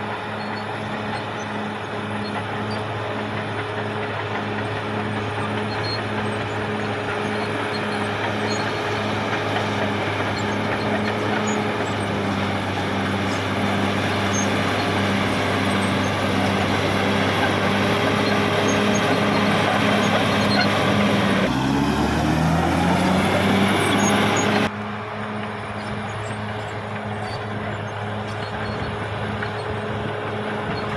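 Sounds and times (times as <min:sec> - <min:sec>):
broad mechanical noise: 0:00.0 - 0:30.9
bulldozer diesel engine running: 0:00.0 - 0:30.9.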